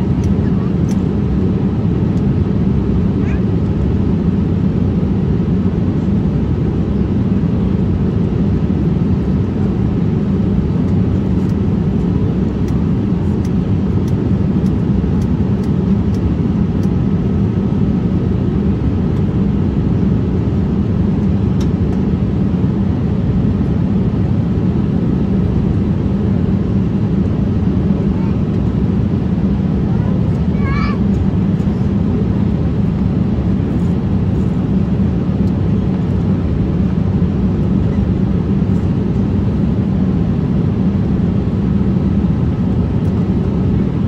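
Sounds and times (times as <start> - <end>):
airflow and engine rush: 0.0 - 44.0.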